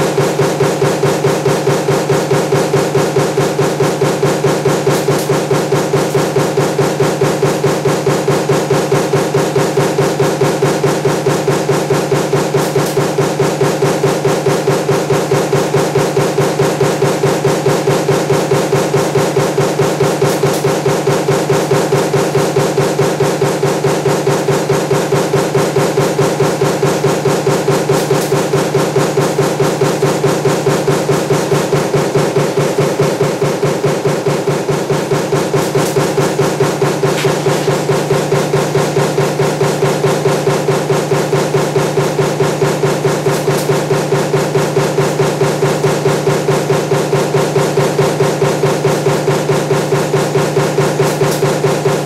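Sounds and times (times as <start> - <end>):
machine hum: 0.0 - 52.0
power press striking: 0.0 - 52.0.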